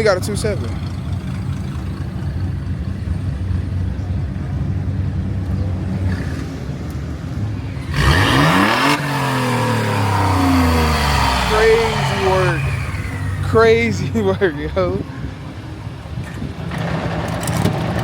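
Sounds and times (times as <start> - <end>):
car engine revving: 0.0 - 15.6
car engine idling: 0.0 - 18.0.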